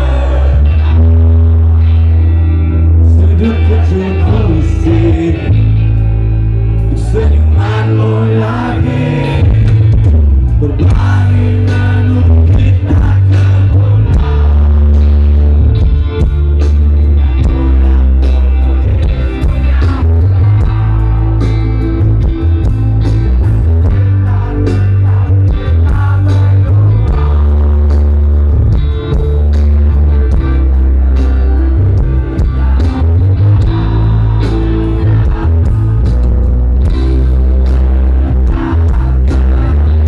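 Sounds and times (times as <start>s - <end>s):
rock band playing live: 0.0s - 40.0s.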